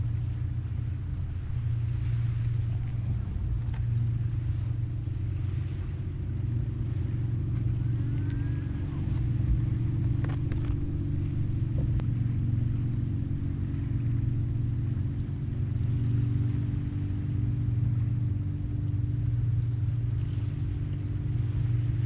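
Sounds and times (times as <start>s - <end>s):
gentle ocean surf rumble: 0.0s - 22.0s.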